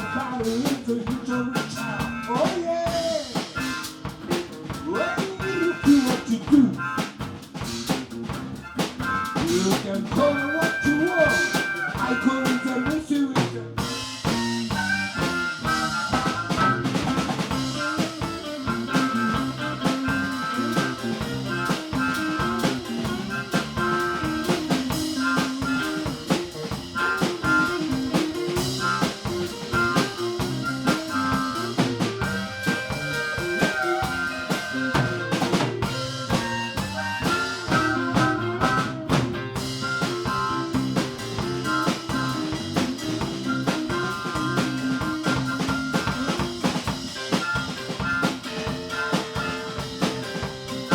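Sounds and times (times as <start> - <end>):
drum rimshots: 0.0 - 50.9
live band playing upbeat song: 0.0 - 50.9.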